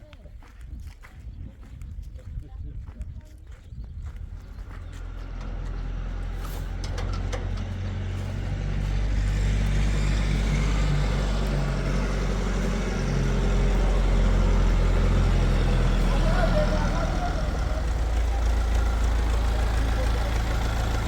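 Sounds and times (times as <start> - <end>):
engine humming: 4.0 - 21.0.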